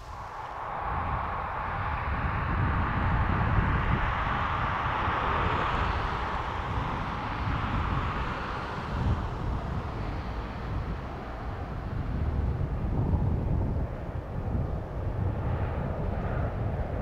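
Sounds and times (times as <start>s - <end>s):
distant train rumble: 0.0s - 17.0s
wind buffeting microphone: 0.0s - 17.0s.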